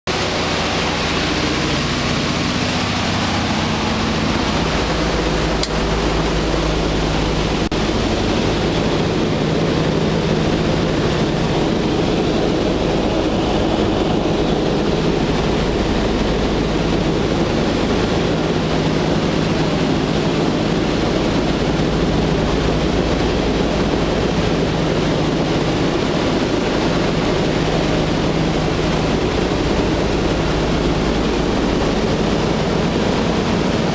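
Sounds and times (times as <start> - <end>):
airflow rushing over airframe: 0.1 - 33.9
radial aircraft engines droning: 0.1 - 33.9.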